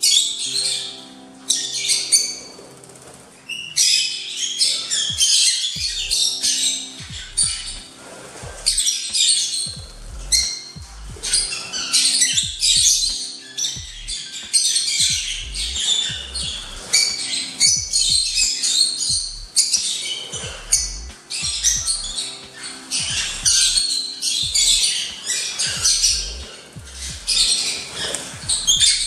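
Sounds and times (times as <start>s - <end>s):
background music with steady beat: 0.0s - 29.0s
lovebirds squawking and chirping: 0.0s - 29.0s.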